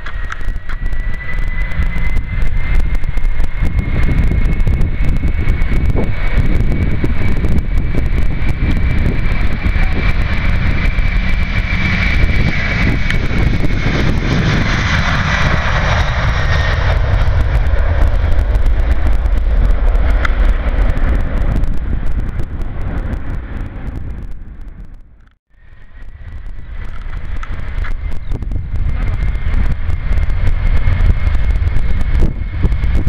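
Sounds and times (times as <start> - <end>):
jet engines at takeoff: 0.0 - 33.0.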